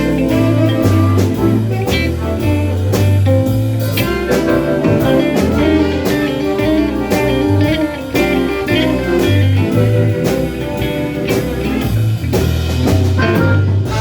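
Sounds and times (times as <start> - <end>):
bass line: 0.0 - 14.0
drums: 0.0 - 14.0
electric guitar notes: 0.0 - 14.0.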